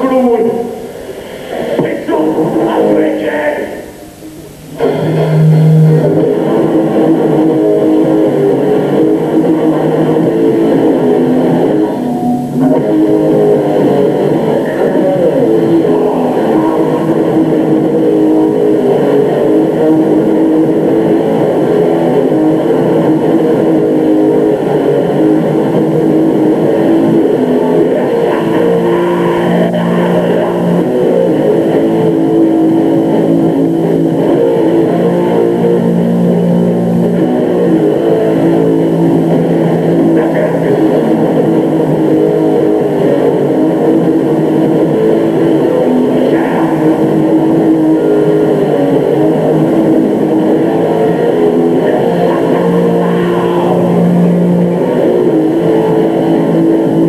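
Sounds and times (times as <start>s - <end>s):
distorted electric guitars: 0.0s - 57.0s.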